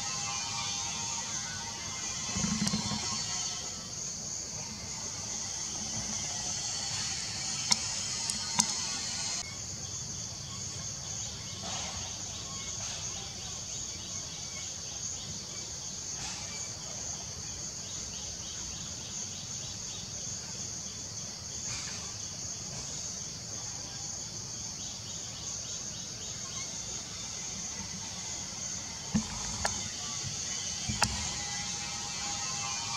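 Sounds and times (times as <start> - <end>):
insects chorus: 0.0 - 32.9.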